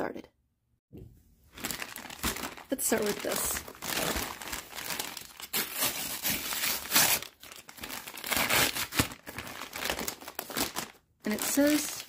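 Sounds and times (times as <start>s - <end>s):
paper tearing and rustling: 1.6s - 12.0s.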